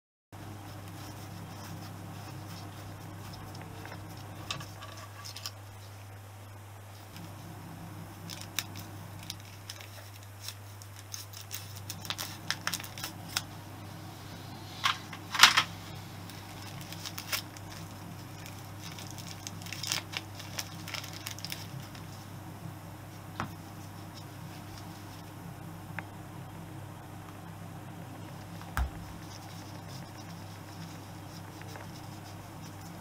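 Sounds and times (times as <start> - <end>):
steady low hum: 0.4 - 33.0.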